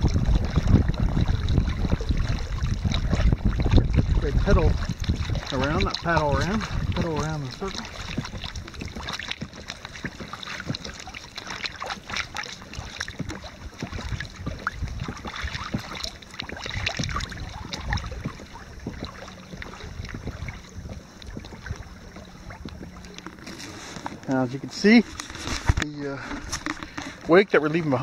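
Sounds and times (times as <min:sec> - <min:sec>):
water lapping against kayak hull: 0:00.0 - 0:28.0.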